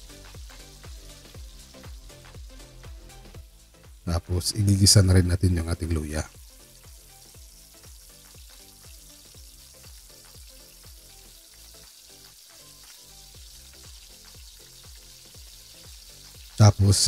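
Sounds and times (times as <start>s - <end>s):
garlic and ginger sizzling in oil: 0.0s - 17.0s
soft background music: 0.0s - 17.0s.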